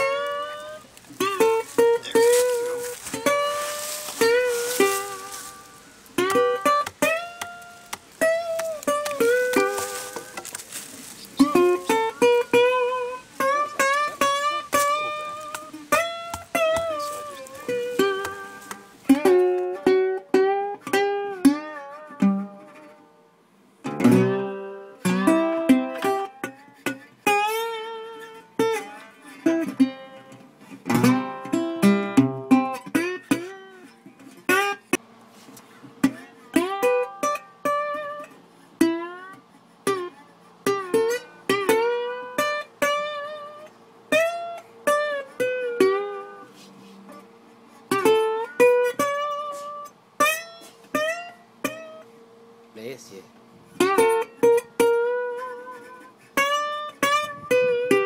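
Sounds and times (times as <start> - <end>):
solo guitar picking and strumming: 0.0 - 58.0.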